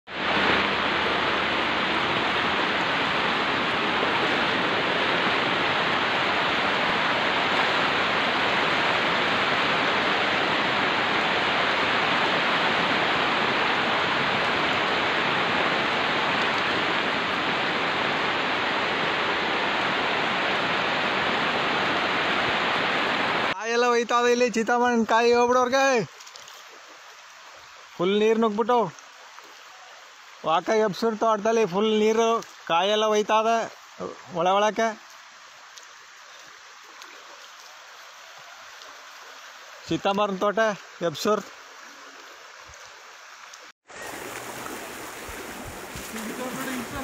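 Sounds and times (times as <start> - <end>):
floodwater rushing: 0.1 - 47.0.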